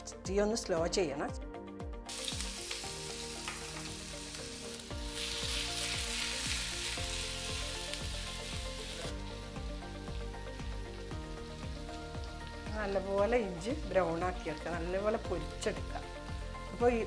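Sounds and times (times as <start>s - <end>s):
ginger sizzling in hot oil: 2.1s - 17.0s.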